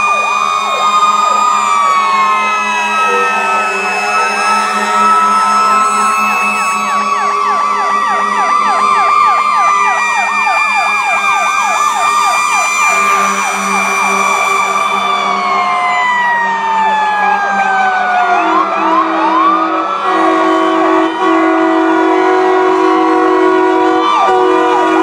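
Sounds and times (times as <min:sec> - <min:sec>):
fire sirens yelping and wailing: 0:00.0 - 0:25.0.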